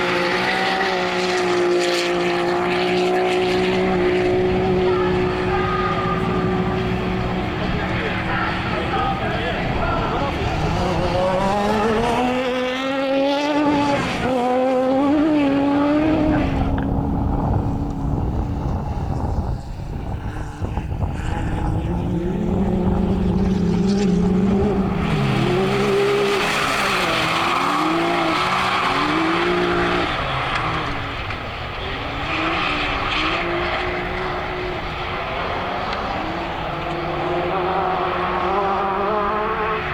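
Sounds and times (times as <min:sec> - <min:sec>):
racing vehicle engine revving: 0:00.0 - 0:18.8, 0:20.6 - 0:39.9.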